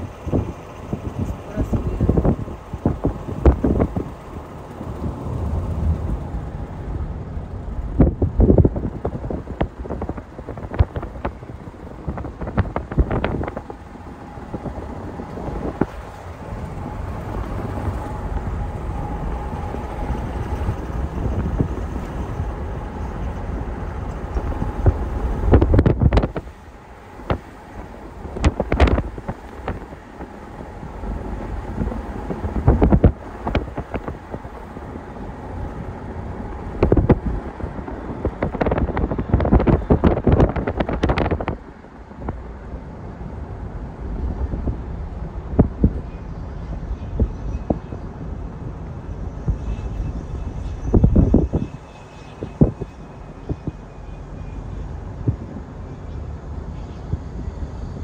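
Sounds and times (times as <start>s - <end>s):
road and engine rumble: 0.0s - 58.0s
wind buffeting microphone: 0.0s - 58.0s.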